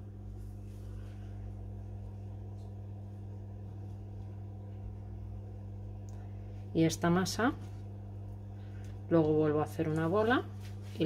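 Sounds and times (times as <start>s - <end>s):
low appliance hum: 0.0s - 11.0s.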